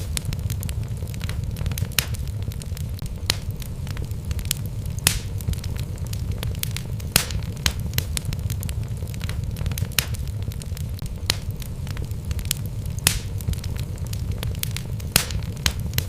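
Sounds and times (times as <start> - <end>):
fire rumbling in fireplace: 0.0 - 16.0
wood crackling and popping: 0.0 - 16.0.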